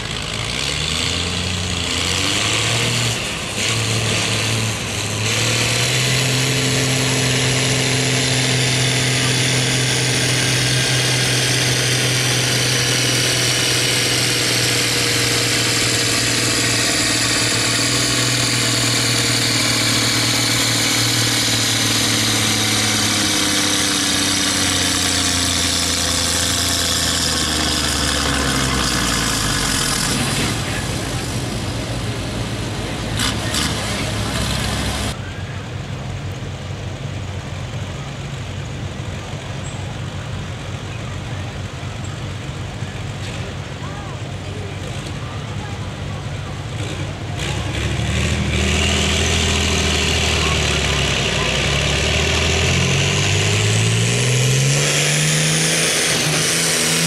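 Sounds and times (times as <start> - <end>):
tractor engine revving under load: 0.0 - 35.2, 35.8 - 57.0.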